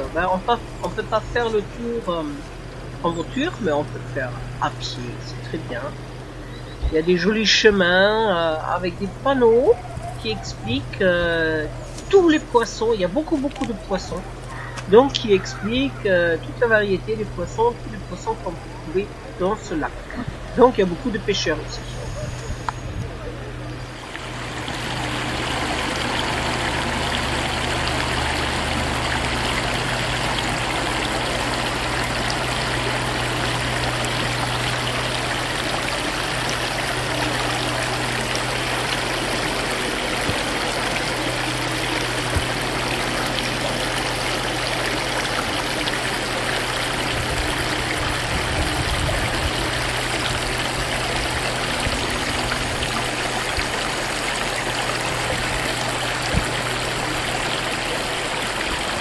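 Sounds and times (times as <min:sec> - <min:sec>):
stream of water flowing over rocks: 0:00.0 - 0:59.0.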